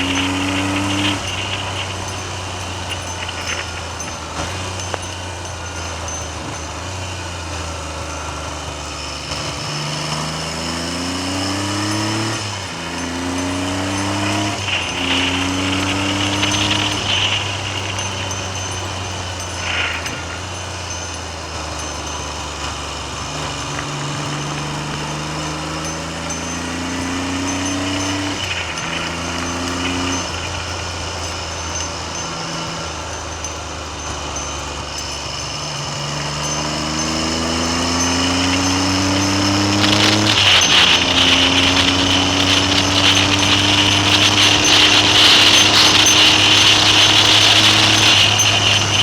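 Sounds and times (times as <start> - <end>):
wind buffeting microphone: 0.0 - 8.4, 10.5 - 49.0
motorcycle engine revving: 0.0 - 49.0.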